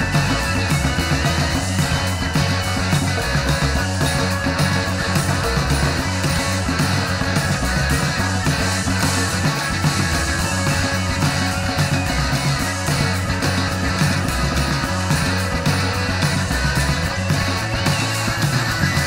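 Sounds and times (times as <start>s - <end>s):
electric guitar: 0.0s - 19.0s
heavy rock band playing: 0.0s - 19.0s
regular drum beat: 0.0s - 19.0s.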